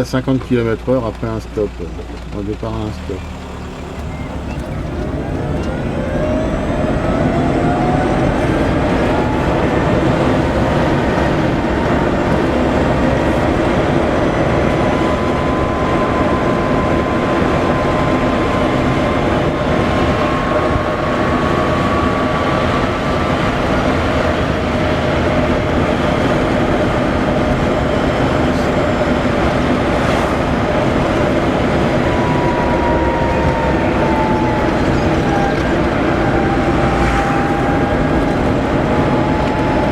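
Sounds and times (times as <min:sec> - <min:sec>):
road and wind noise: 0:00.0 - 0:39.9
electric motor whining: 0:03.2 - 0:39.9.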